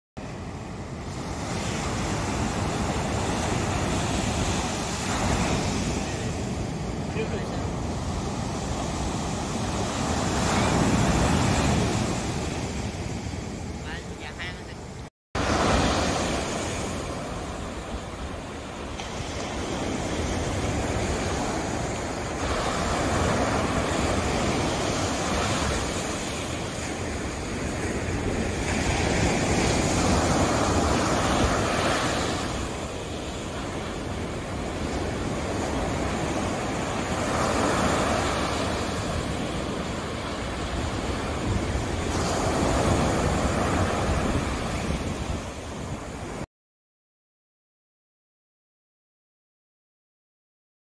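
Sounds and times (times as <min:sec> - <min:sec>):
waves breaking on sandy beach: 0:00.2 - 0:46.5.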